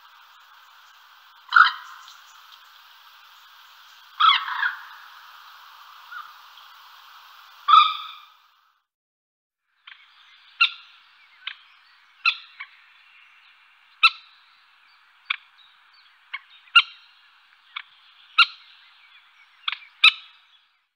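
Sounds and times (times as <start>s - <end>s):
bird calling with sharp notes: 0.0s - 8.6s, 9.8s - 20.7s.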